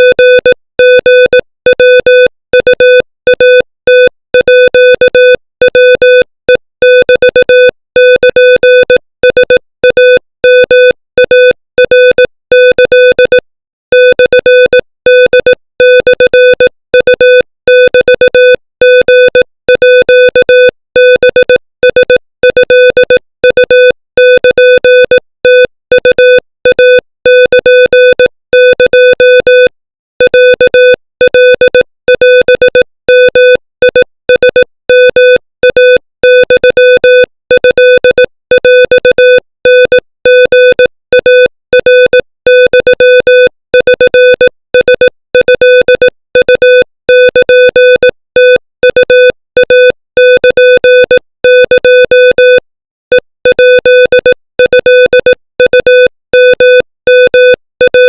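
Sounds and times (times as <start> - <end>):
morse code beeps: 0.0 - 58.0.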